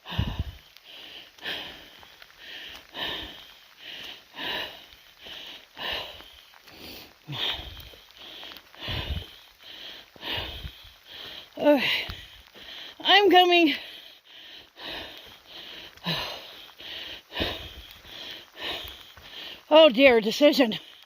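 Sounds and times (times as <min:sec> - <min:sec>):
person breathing hard: 0:00.0 - 0:13.1, 0:13.7 - 0:19.7.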